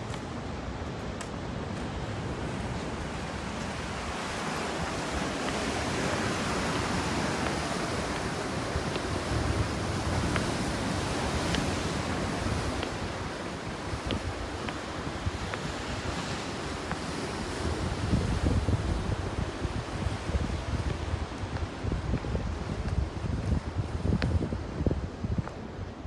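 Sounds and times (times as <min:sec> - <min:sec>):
sea waves washing ashore: 0:00.0 - 0:26.0
wind buffeting microphone: 0:00.0 - 0:26.0.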